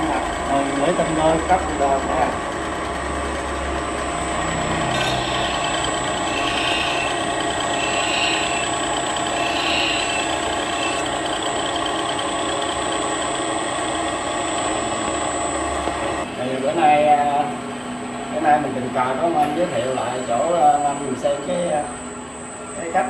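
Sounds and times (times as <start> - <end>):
grinding machine motor hum: 0.0 - 23.0.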